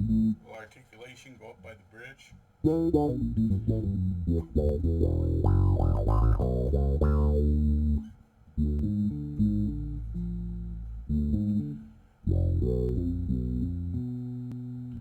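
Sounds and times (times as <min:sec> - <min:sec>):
electric bass with wah filter: 0:00.0 - 0:00.4, 0:02.6 - 0:15.0.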